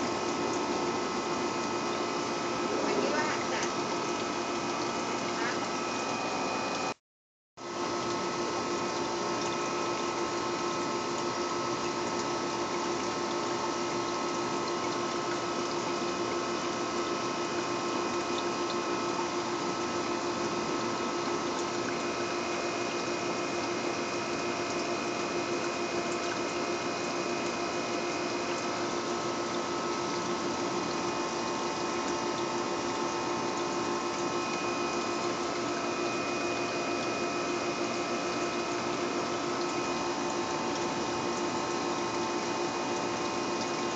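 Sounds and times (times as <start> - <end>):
motor hum: 0.0 - 7.0, 7.6 - 43.9.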